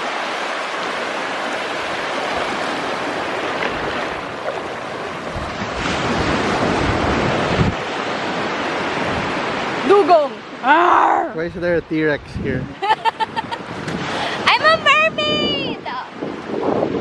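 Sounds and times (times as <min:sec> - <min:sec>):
ocean waves breaking: 0:00.0 - 0:17.0
wind on microphone: 0:01.2 - 0:10.0, 0:11.4 - 0:17.0.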